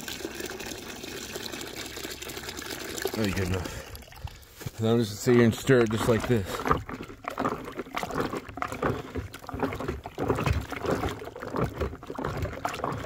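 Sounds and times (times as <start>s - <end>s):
water sloshing in bucket: 0.0s - 13.0s.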